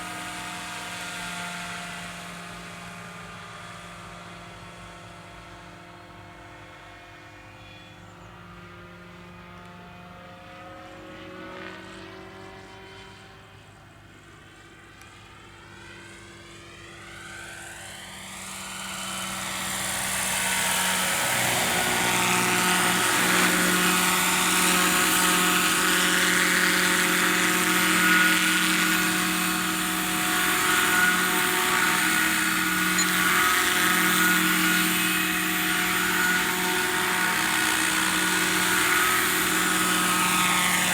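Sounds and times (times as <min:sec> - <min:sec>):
helicopter rotor and engine whine: 0:00.0 - 0:40.9.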